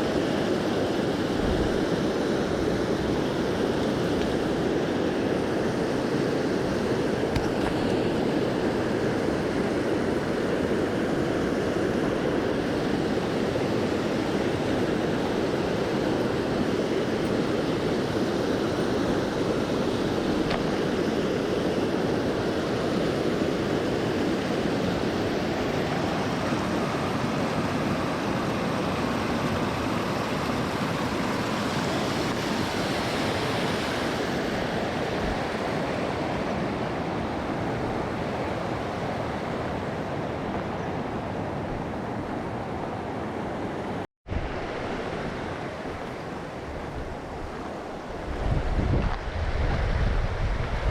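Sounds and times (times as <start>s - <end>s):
river water rushing: 0.0s - 49.6s.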